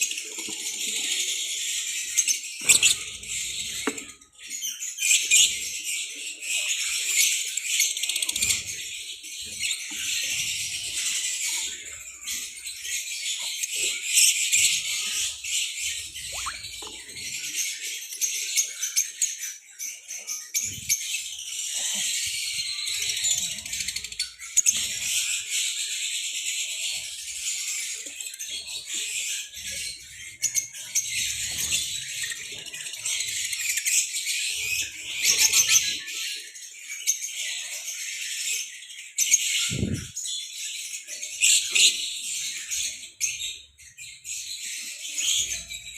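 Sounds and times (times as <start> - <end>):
flock of birds chattering: 0.0 - 45.9.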